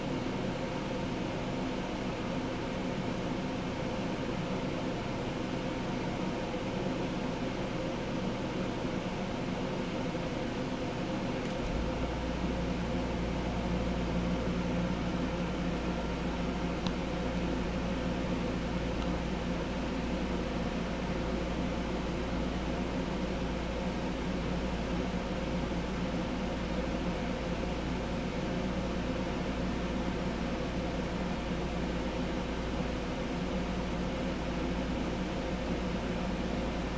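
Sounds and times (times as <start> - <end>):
ceiling fan whirring: 0.0 - 36.9.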